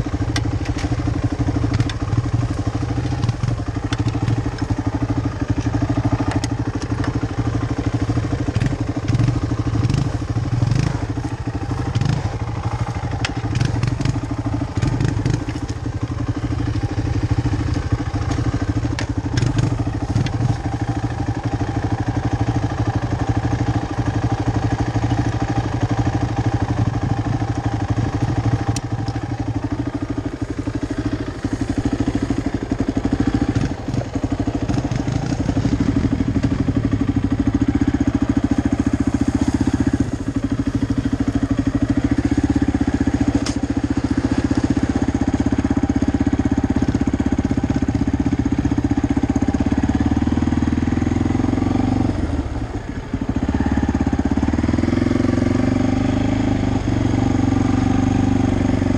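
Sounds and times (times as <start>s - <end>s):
atv engine idling: 0.0s - 58.9s.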